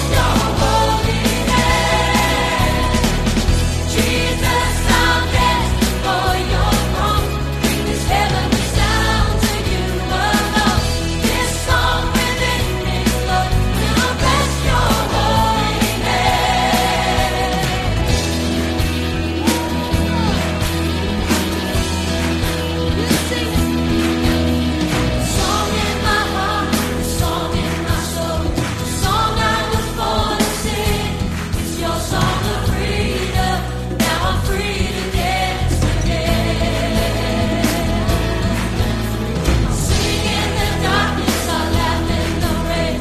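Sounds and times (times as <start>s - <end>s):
bass: 0.0s - 43.0s
choir singing worship song: 0.0s - 43.0s
drums keeping steady beat: 0.0s - 43.0s.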